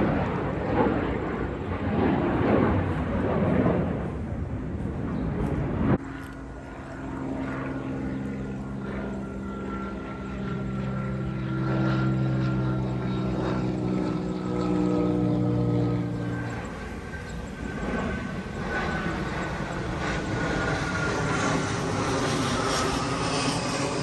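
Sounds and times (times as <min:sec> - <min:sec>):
propeller airplane engine drone: 0:00.0 - 0:24.0.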